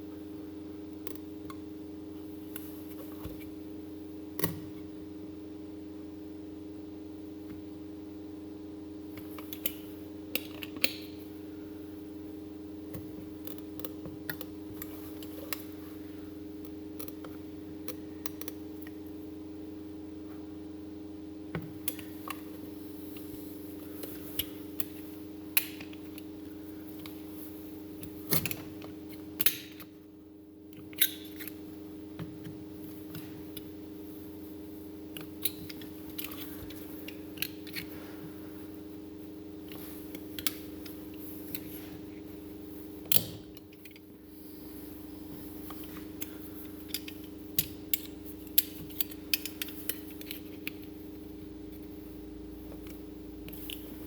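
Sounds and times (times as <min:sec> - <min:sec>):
steady electrical hum: 0:00.0 - 0:54.0.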